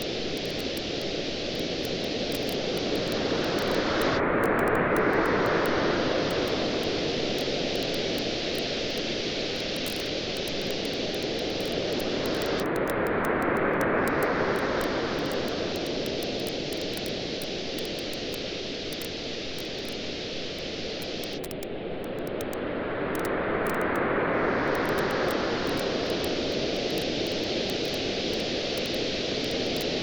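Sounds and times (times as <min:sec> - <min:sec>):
campfire crackling and popping: 0:00.0 - 0:13.2, 0:14.1 - 0:20.1, 0:21.0 - 0:22.6, 0:24.7 - 0:30.0.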